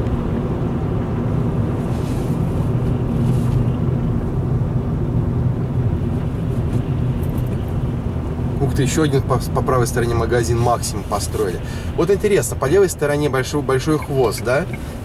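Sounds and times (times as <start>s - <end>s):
car cabin engine and road hum: 0.0s - 15.0s.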